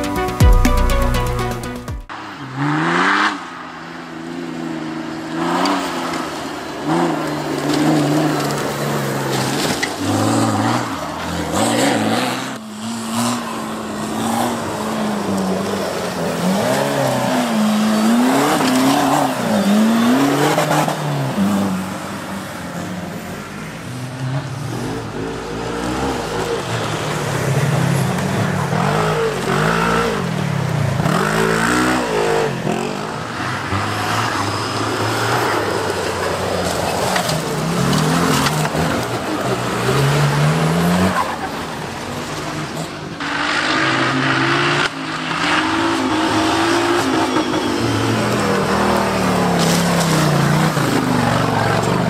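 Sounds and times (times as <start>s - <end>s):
off-road vehicle engine revving: 2.2s - 22.1s, 24.2s - 52.0s.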